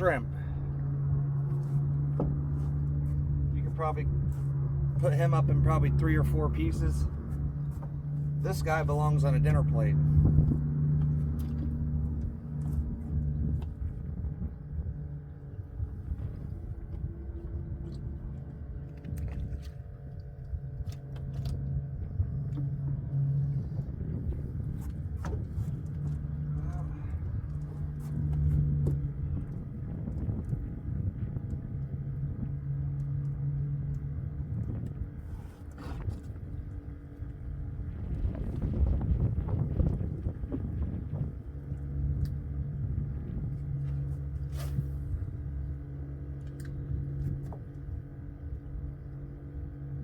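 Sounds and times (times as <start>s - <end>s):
motor hum and rumble: 0.0s - 50.0s.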